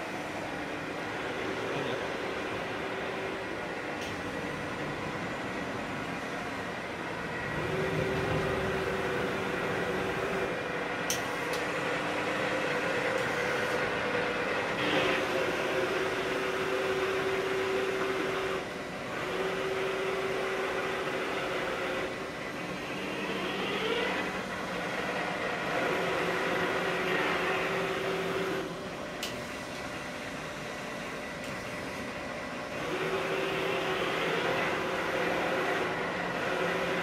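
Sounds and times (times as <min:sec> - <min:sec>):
lathe machine hum: 0:00.0 - 0:37.0
mid-pitched machine whine: 0:00.0 - 0:37.0.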